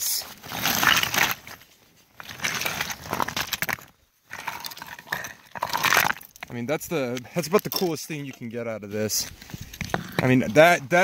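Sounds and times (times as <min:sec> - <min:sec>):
shale crunching and clinking: 0:00.4 - 0:11.0.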